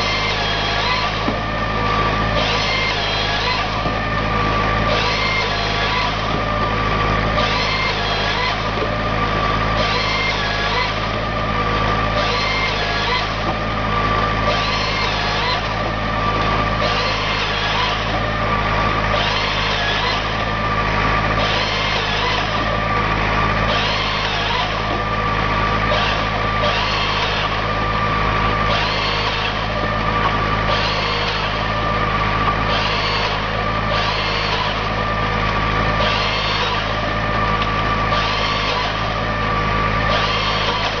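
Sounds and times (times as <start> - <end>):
machine whine: 0.0 - 41.0
tractor engine running: 0.0 - 41.0.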